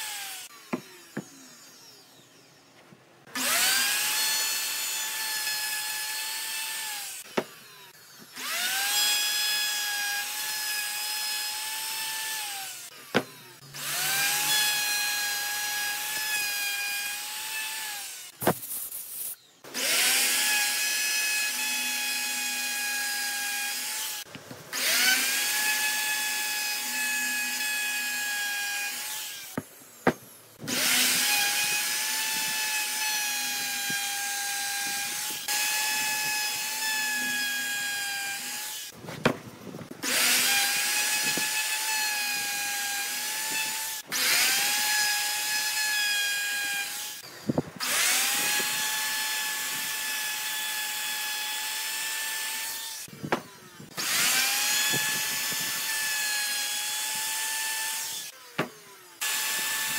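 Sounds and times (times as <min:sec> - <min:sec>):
router cutting wood: 0:00.0 - 0:02.6, 0:03.2 - 0:18.6, 0:19.7 - 0:59.9.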